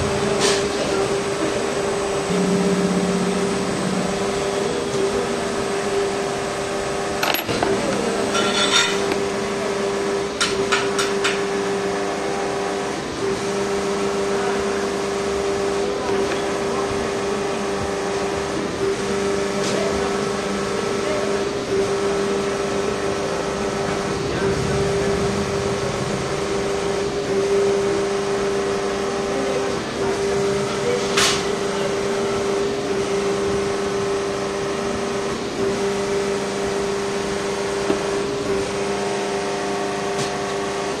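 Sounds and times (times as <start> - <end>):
workshop machinery humming: 0.0 - 41.0.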